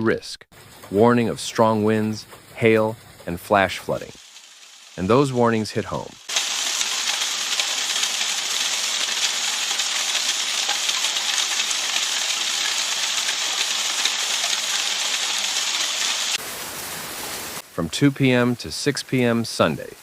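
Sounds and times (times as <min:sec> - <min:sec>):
heavy rain pouring: 0:00.6 - 0:18.4.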